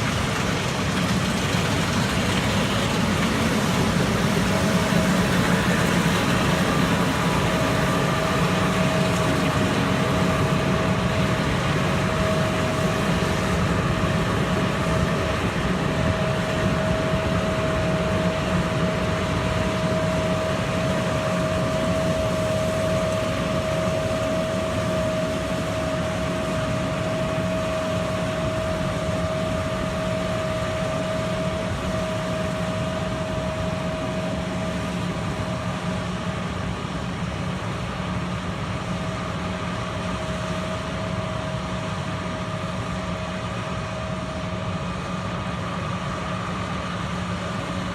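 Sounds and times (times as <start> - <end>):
combine harvester drone: 0.0 - 47.9
high whine: 0.0 - 47.9.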